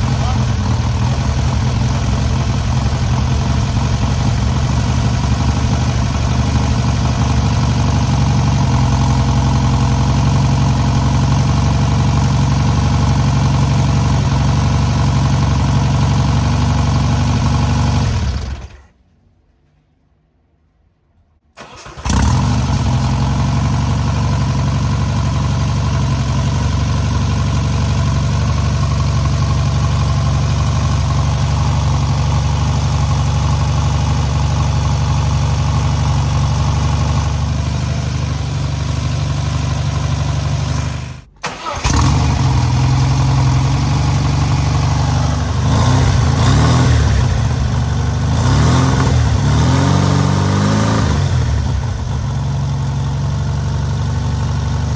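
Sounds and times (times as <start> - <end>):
car engine starting and running: 0.0 - 19.0, 21.5 - 54.9.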